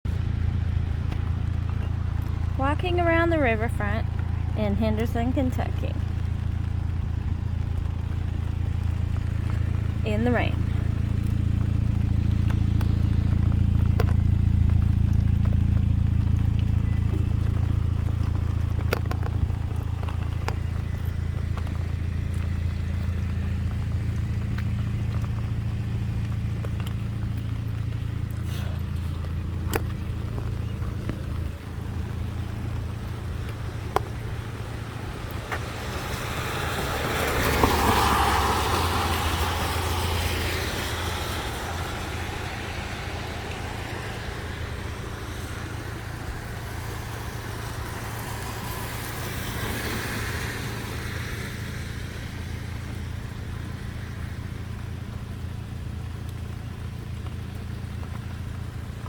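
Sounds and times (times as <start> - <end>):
low engine rumble: 0.0 - 59.0
vehicle passing on wet pavement: 0.1 - 59.0.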